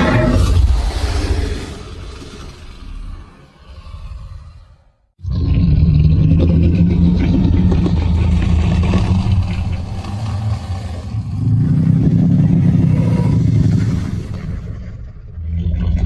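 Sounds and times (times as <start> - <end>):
deep dinosaur growl: 0.0 - 16.0.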